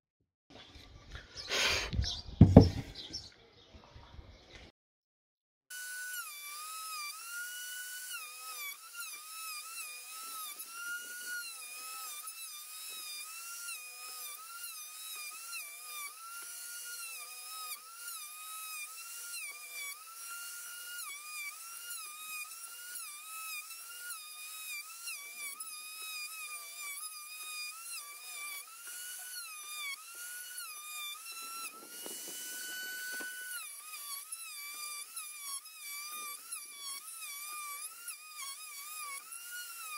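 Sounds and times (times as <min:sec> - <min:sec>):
router whining cutting wood: 0:01.1 - 0:03.2, 0:05.7 - 0:39.9.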